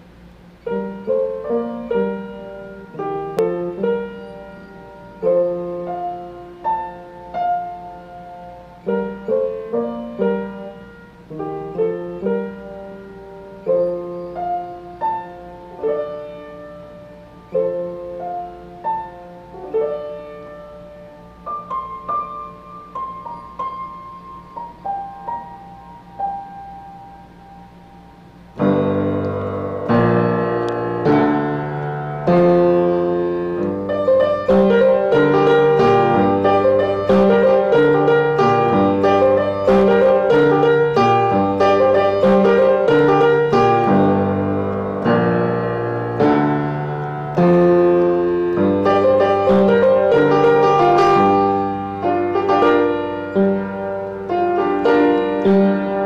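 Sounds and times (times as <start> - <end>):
keyboard piano chords: 0.0 - 56.0.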